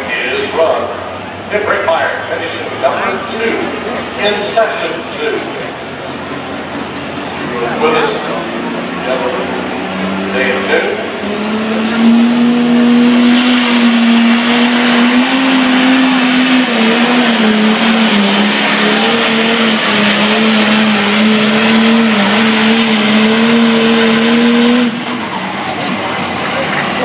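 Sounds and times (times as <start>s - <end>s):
diesel engine running under load: 0.0s - 27.0s.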